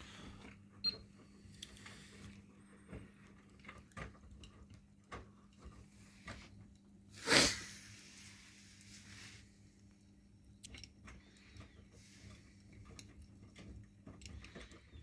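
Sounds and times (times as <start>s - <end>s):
washing machine humming: 0.0s - 7.2s, 7.9s - 15.0s.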